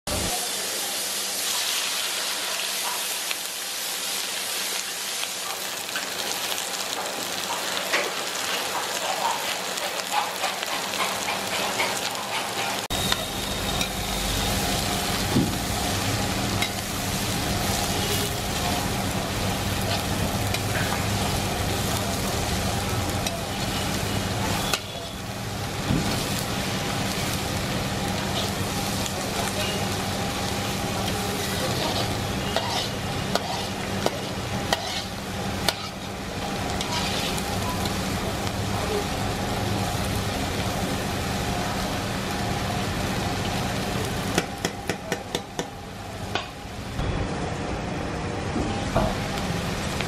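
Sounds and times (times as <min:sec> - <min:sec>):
onions sizzling in hot oil: 0:00.1 - 0:50.0.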